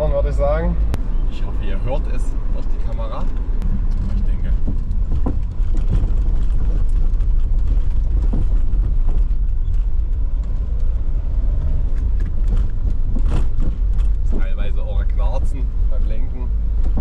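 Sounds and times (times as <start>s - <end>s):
tyres rumbling on road: 0.0s - 17.0s.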